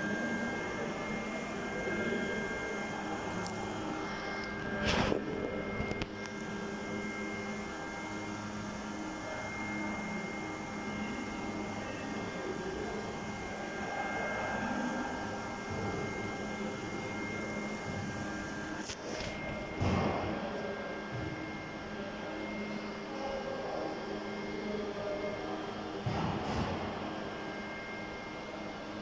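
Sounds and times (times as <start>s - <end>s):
held tones: 0.0s - 25.5s
machinery humming: 0.0s - 29.0s.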